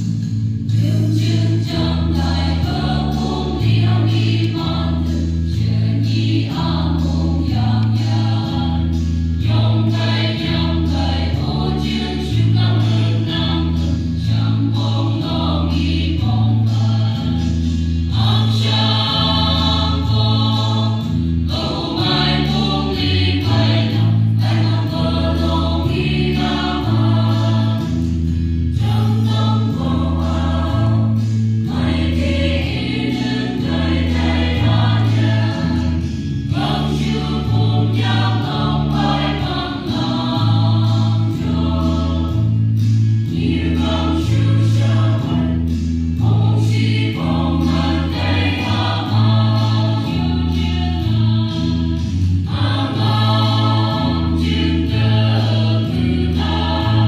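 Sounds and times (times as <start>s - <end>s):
low bass line: 0.0s - 57.0s
mixed choir singing: 0.7s - 57.0s.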